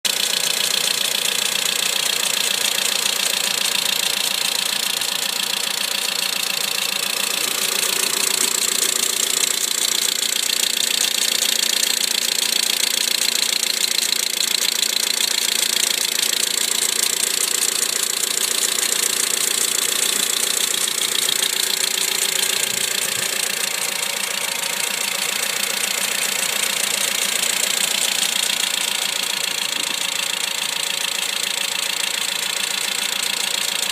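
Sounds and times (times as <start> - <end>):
car engine running: 0.0 - 33.9
rapid engine ticking: 0.0 - 33.9.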